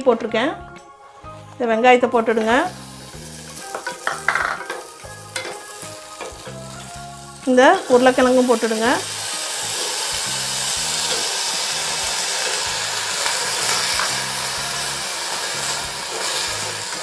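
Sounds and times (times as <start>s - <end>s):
onion and potato sizzling: 1.3s - 17.0s.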